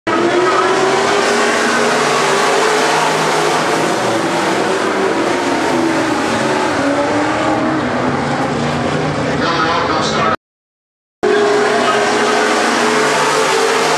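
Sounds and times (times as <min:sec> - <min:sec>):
stock car engines racing: 0:00.1 - 0:10.4, 0:11.2 - 0:13.9.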